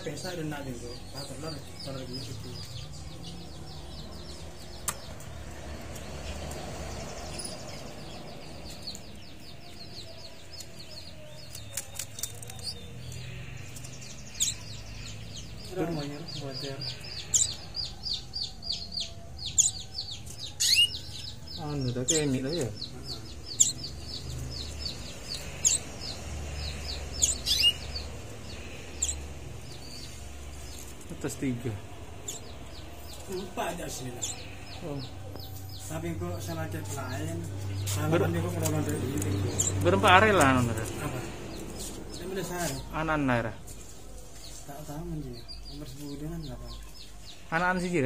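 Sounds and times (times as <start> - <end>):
canaries chirping in trills: 0.0 - 48.0.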